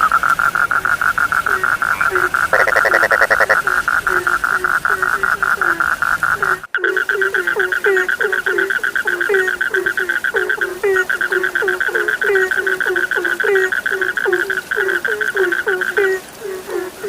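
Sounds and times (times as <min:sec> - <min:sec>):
frogs trilling: 0:00.0 - 0:17.0
low frog croaks: 0:00.0 - 0:17.0.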